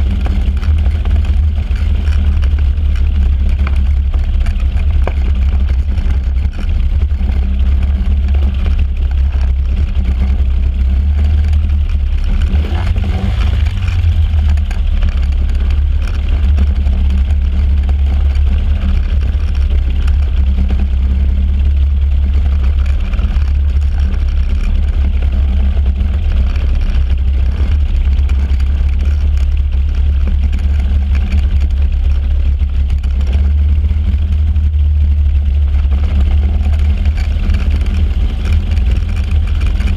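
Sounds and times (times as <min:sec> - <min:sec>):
engine and propeller drone: 0:00.0 - 0:39.9.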